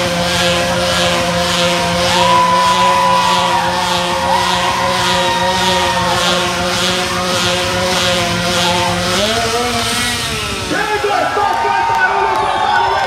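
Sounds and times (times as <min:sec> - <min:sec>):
motorcycle engine high revs: 0:00.0 - 0:12.8.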